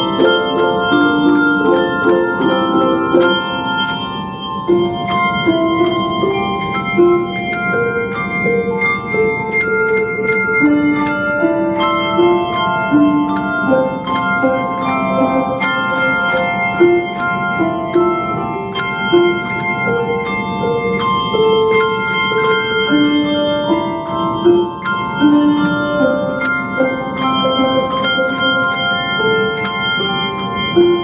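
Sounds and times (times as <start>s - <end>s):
handbell choir playing: 0.0s - 31.0s.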